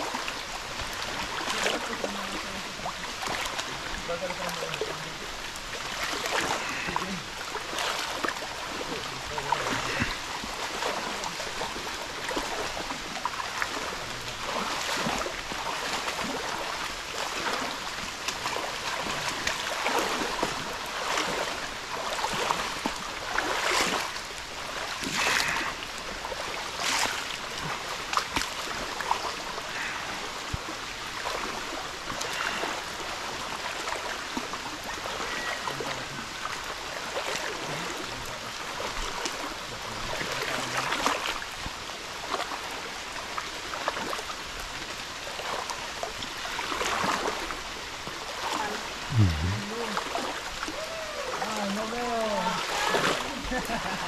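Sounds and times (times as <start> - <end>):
water sloshing around legs: 0.0 - 38.1, 38.7 - 41.6, 42.2 - 54.0.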